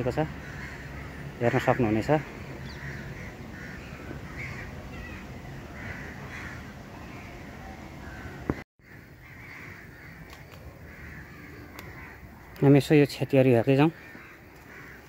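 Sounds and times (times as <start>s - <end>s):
crows cawing: 0.0s - 15.0s.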